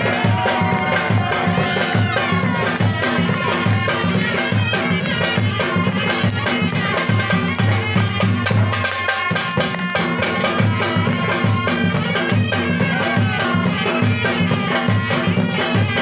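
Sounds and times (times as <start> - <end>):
large drum beat: 0.0 - 16.0
reedy shawm melody: 0.0 - 16.0.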